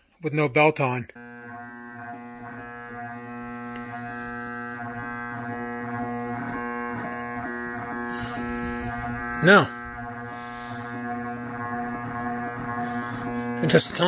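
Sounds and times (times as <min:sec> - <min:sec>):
electric motor humming: 0:01.1 - 0:14.0.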